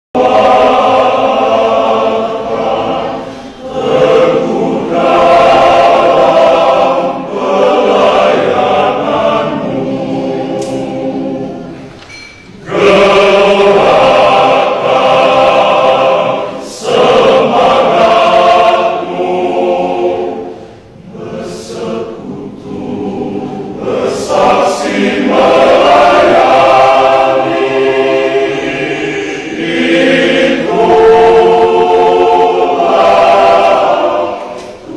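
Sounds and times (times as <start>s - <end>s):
men's choir singing a hymn: 0.1s - 34.9s.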